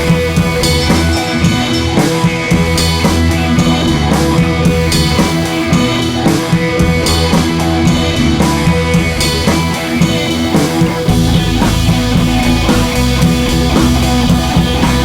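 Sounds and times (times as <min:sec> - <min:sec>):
rock music with drums and guitar: 0:00.0 - 0:15.0.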